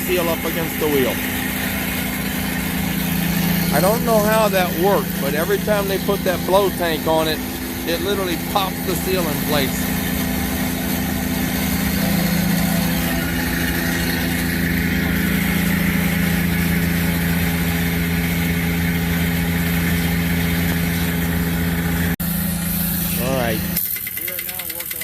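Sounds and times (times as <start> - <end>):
air compressor droning: 0.0 - 25.0.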